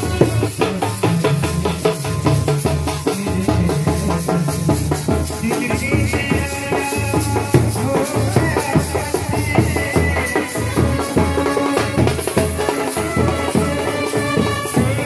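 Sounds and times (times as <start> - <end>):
drums and rattling percussion: 0.0 - 15.0
loud band music: 0.0 - 15.0.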